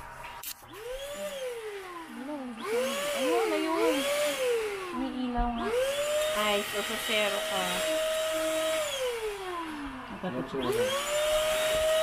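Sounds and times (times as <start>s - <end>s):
handheld vacuum cleaner whine: 0.0s - 12.0s.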